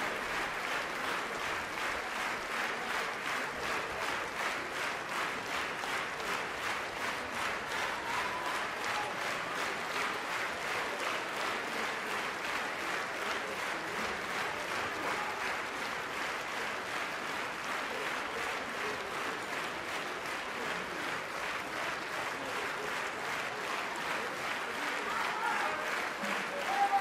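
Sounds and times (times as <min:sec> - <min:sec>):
audience clapping in rhythm: 0:00.0 - 0:27.0.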